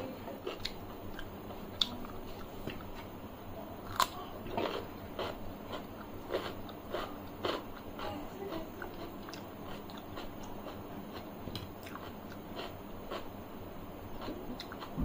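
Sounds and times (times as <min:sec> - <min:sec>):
chewing food: 0:00.4 - 0:03.1, 0:03.8 - 0:13.3, 0:14.1 - 0:15.0.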